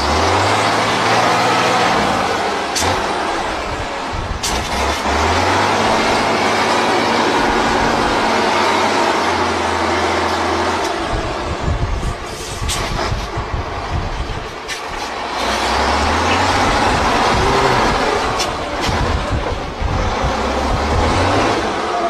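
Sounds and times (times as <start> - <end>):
truck engine running hard: 0.0 - 22.0.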